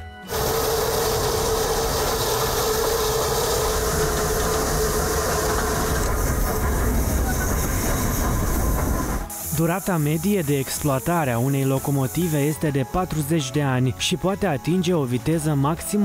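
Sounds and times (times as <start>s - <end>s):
steam train hissing and rumbling: 0.3s - 13.5s.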